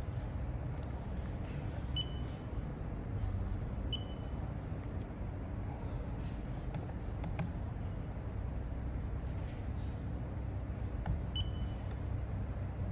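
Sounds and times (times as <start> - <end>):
low background rumble: 0.0 - 12.9.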